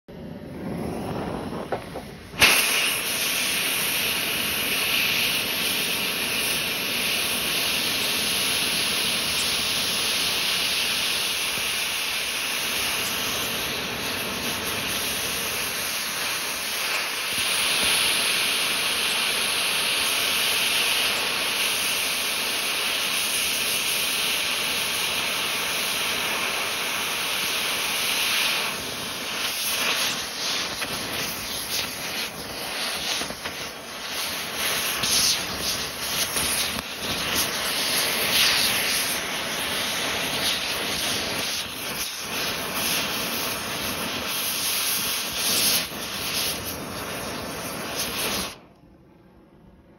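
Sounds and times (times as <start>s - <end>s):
torch flame hissing: 0.1s - 48.7s.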